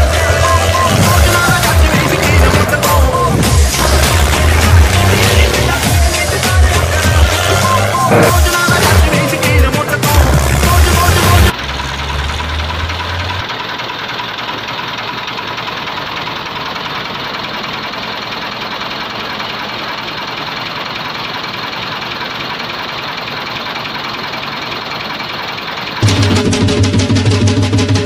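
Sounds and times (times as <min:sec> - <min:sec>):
small tractor engine idling: 0:00.0 - 0:28.0.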